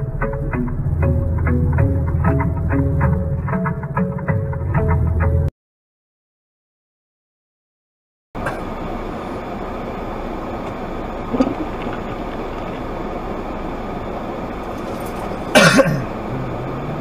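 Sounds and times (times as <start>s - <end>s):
car driving noise from inside: 0.0s - 5.5s, 8.4s - 17.0s.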